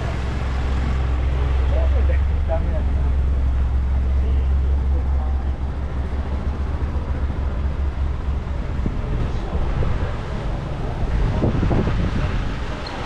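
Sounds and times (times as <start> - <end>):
low rumble: 0.0 - 12.9
noisy wash: 0.0 - 13.0.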